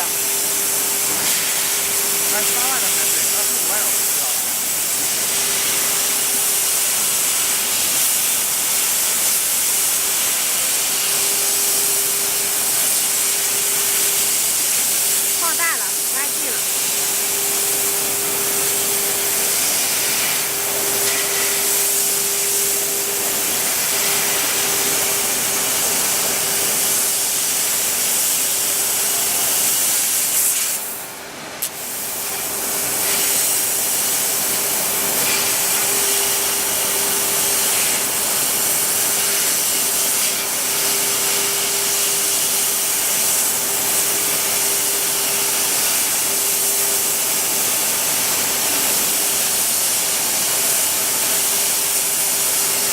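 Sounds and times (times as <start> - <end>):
constant machine tone: 0.0 - 30.2, 32.1 - 52.9
cutting machine hissing: 0.0 - 30.4, 31.9 - 52.9.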